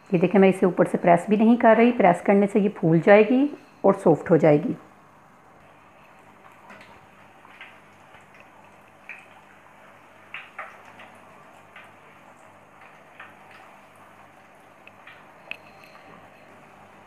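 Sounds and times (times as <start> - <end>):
dough deep-frying in oil: 0.0 - 17.0.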